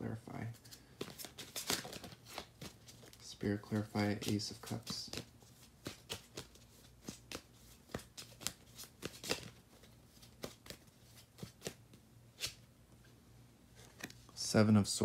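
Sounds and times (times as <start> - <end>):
cards being shuffled: 0.6 - 12.7, 13.7 - 14.5.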